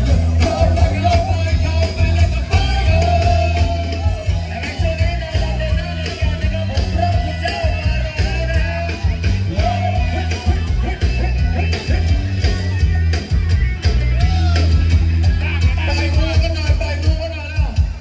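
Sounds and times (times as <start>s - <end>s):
deep bass line: 0.0s - 18.0s
drums with cymbals: 0.0s - 18.0s.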